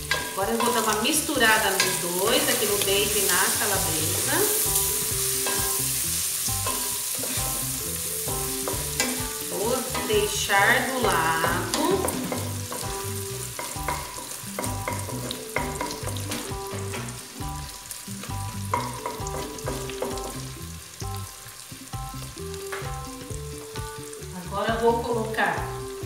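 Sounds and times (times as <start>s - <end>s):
bacon and sausage sizzling: 0.0s - 26.0s
soft background music: 0.0s - 26.0s.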